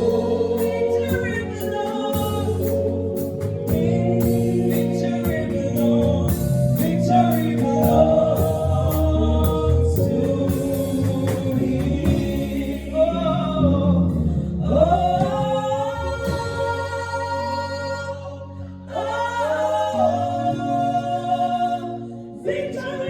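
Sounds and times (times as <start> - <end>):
people singing worship song: 0.0 - 23.0
sustained instrumental chords: 0.0 - 23.0.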